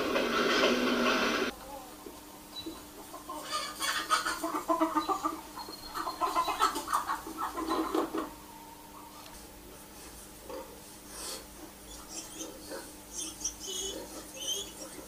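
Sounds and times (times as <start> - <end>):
hens clucking: 0.0 - 9.5, 10.2 - 15.0
faint steady hum: 0.0 - 15.0.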